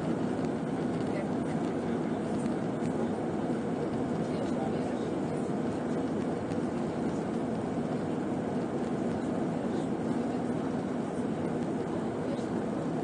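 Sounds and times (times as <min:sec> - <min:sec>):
jet engine cabin rush: 0:00.0 - 0:13.0.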